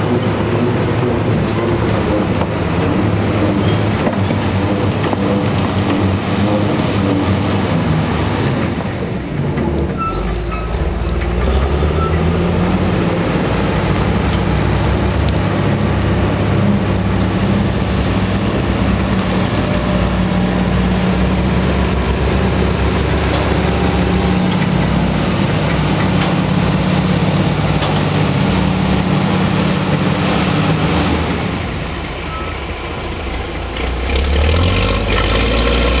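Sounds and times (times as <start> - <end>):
bucket working in rock: 0.0 - 36.0
dragline engine running under load: 0.0 - 36.0.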